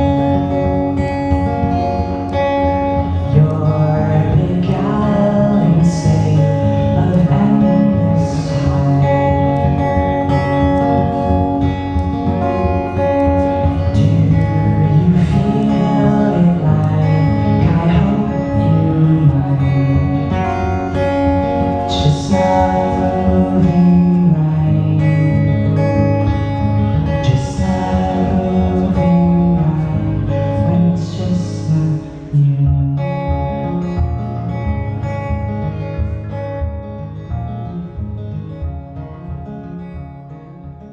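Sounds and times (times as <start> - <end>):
person singing: 0.0 - 33.8
acoustic guitar strumming: 0.0 - 40.9.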